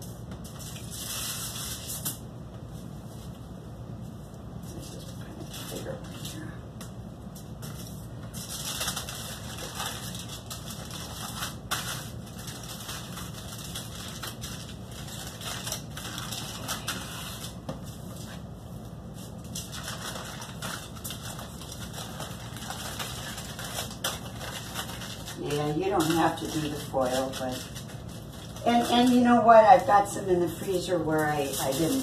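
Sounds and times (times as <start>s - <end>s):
aluminium foil crinkling: 0.0s - 2.2s, 4.7s - 32.0s
steady low hum: 0.0s - 32.0s.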